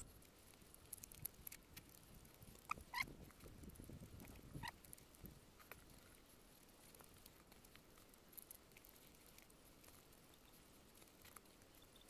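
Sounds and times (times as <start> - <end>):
chewing: 0.0 - 12.0
soft clicks of eating by hand: 0.0 - 12.0.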